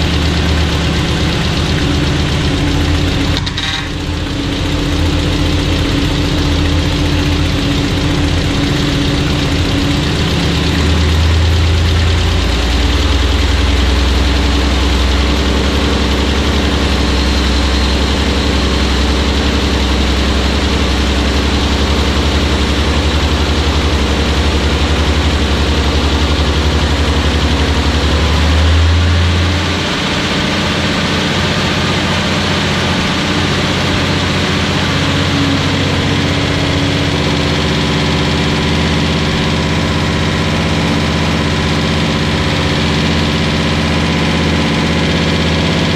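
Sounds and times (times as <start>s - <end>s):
car engine fast idle: 0.0s - 45.9s.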